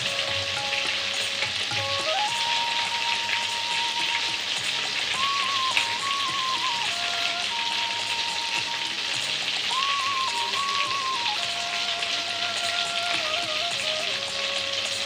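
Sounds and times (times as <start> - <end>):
seeds frying in hot oil: 0.0 - 15.0.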